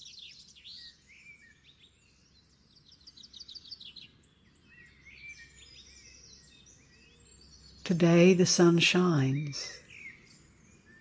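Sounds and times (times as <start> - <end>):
faint songbirds singing: 0.0 - 11.0.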